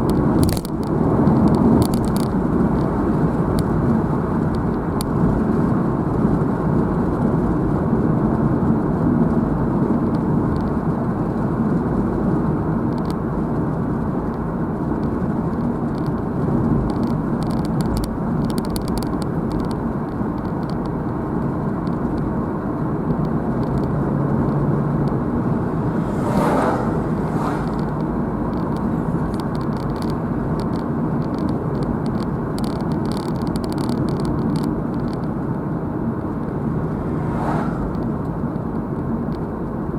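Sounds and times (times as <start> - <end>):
car tyre and engine noise: 0.0 - 39.9.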